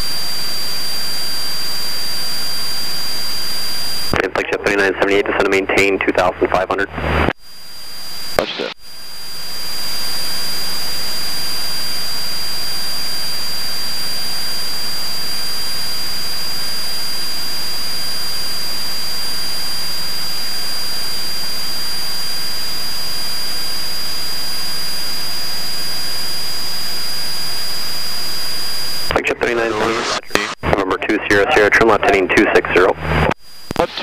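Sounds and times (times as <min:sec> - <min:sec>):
thin high whine: 0:06.4 - 0:34.0.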